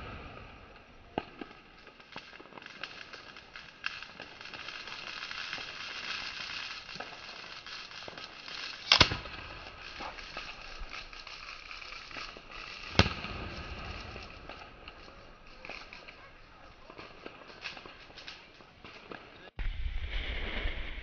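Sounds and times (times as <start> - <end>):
firework shells bursting: 0.0 - 19.5
fireworks crackling: 0.0 - 21.0.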